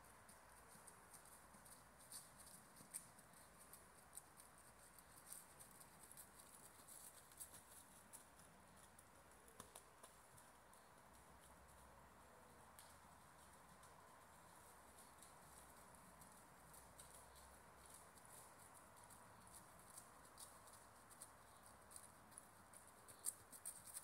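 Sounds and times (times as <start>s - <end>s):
faint outdoor hiss: 0.0s - 24.0s
soft irregular ticks: 0.0s - 24.0s.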